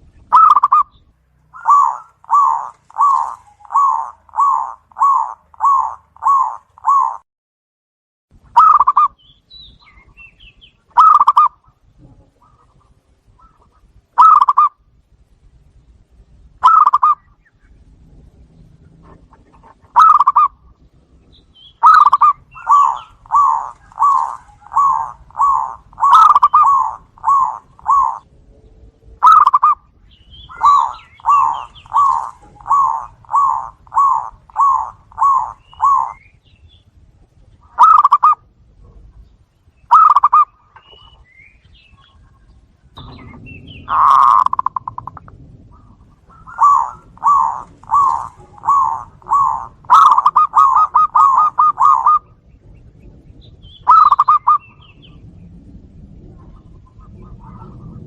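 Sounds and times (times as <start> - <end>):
doves cooing: 0.3 - 7.2, 8.6 - 9.2, 10.8 - 14.8, 16.6 - 36.5, 37.3 - 39.2, 39.9 - 58.0.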